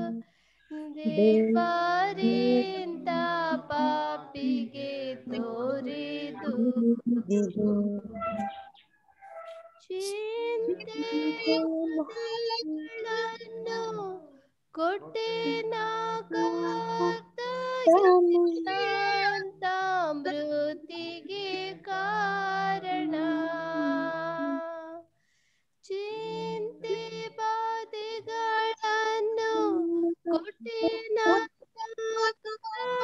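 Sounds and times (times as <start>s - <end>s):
voices singing a hymn: 0.0s - 14.2s, 14.8s - 25.0s, 29.4s - 31.5s.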